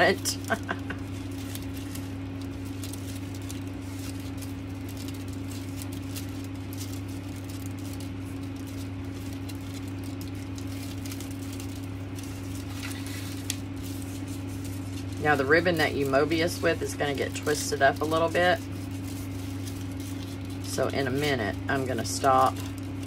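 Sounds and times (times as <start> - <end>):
satin ribbon rustling: 0.0 - 23.0.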